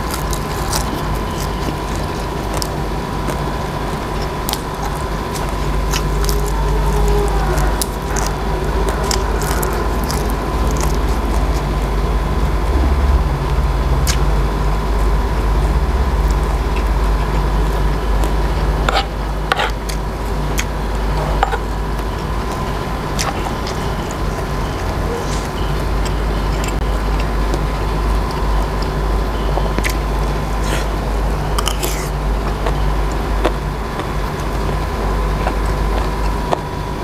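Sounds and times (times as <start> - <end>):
man chewing food: 0.0 - 37.0
steady low hum: 0.0 - 37.0.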